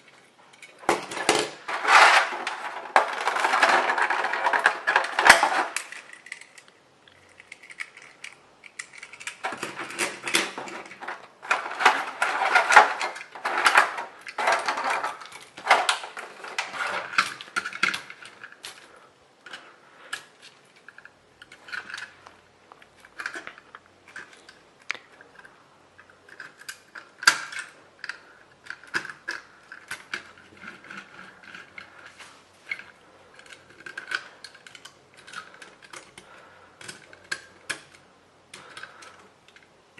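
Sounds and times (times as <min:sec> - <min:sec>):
plastic toy cars clattering: 0:00.0 - 0:39.8.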